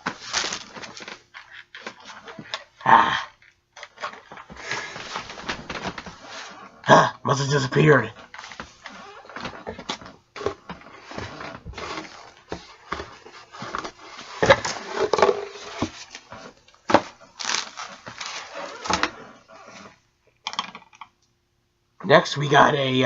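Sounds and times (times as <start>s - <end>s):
packaging rustling and crinkling: 0.0s - 2.8s, 3.4s - 6.8s, 8.2s - 20.9s.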